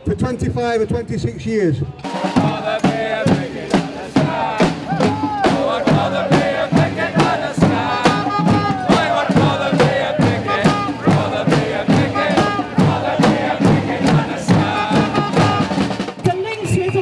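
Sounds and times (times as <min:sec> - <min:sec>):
protest crowd chanting: 0:02.0 - 0:16.0
sharp rhythmic strikes: 0:02.0 - 0:16.9.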